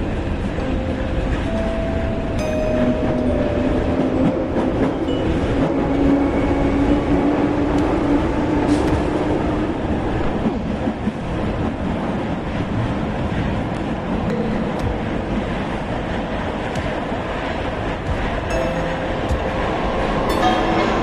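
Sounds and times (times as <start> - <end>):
train rumbling on track: 0.0 - 21.0
train whine: 0.0 - 21.0.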